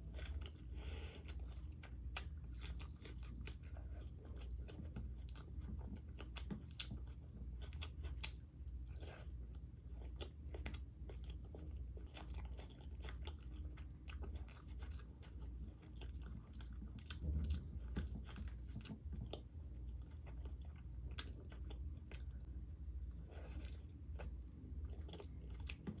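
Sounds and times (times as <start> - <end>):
steady low hum: 0.0 - 26.0
person chewing wet smacks: 1.2 - 26.0.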